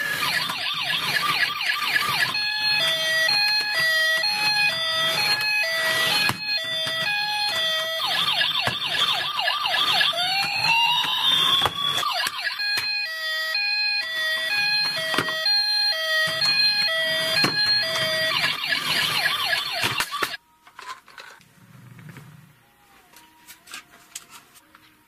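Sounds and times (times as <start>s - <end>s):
toy police siren: 0.0s - 20.4s.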